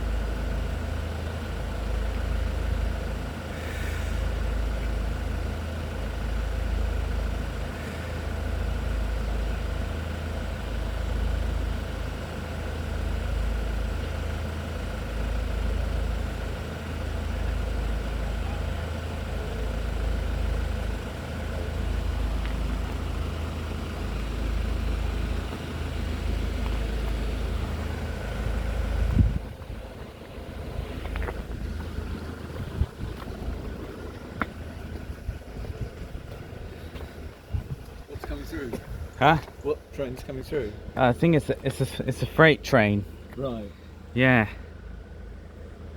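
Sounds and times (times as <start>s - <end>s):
vehicle engines idling: 0.0s - 45.9s.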